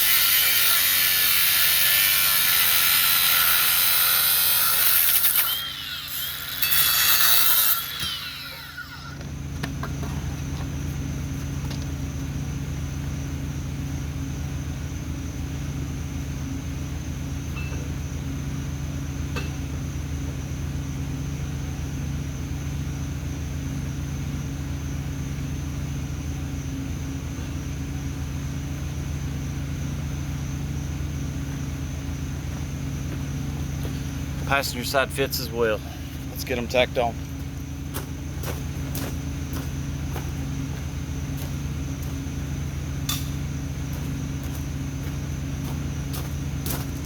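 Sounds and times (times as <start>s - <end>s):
faint high whine: 4.4s - 47.0s
engine running steadily: 9.1s - 47.0s.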